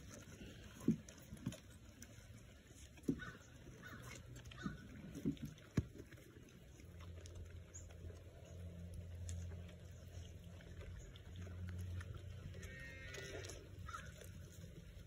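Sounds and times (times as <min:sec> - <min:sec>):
goats crunching and chewing corn: 0:00.0 - 0:15.0.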